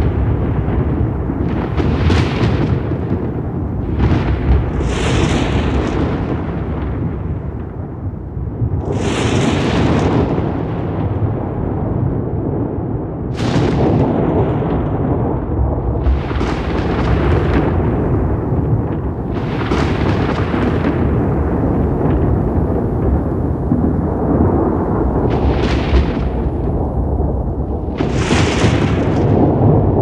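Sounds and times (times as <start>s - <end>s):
rolling thunder: 0.0s - 30.0s
thunder crack: 0.0s - 30.0s.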